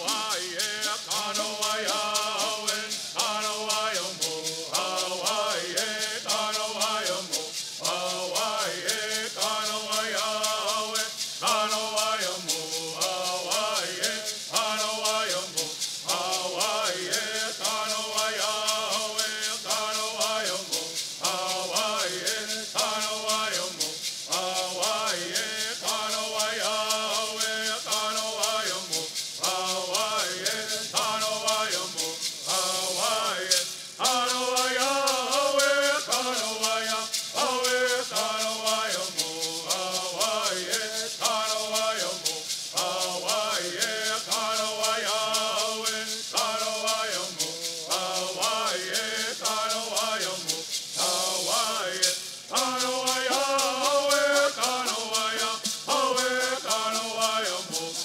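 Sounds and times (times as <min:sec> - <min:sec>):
gourd rattles shaking: 0:00.0 - 0:58.0
men singing in unison: 0:00.0 - 0:58.0.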